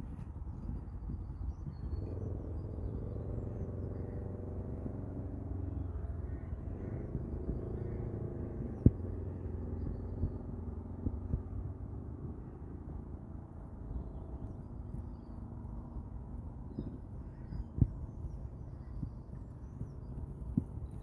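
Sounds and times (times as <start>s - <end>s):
faint engine drone: 0.0s - 21.0s
low steady rumble: 0.0s - 21.0s.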